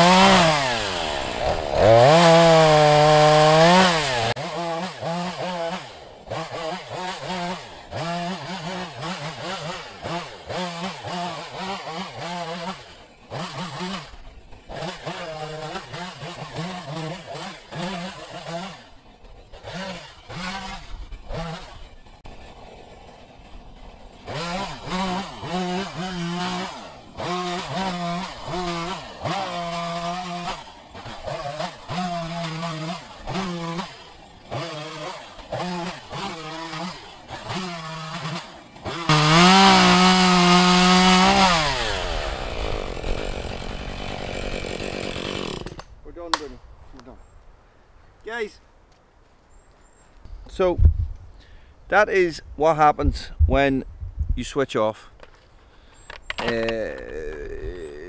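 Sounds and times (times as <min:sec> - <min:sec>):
chainsaw revving: 0:00.0 - 0:45.9, 0:56.0 - 0:58.0.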